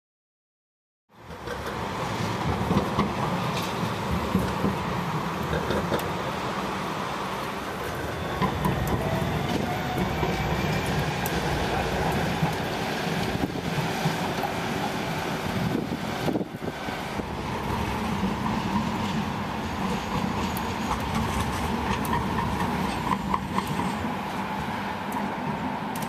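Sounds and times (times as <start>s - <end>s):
tram rumbling with faint whine: 1.1s - 26.0s.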